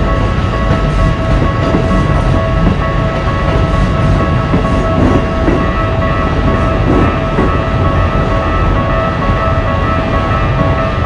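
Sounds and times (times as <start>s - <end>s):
crossing warning bell: 0.0s - 11.0s
train rumbling past on rails: 0.0s - 11.0s.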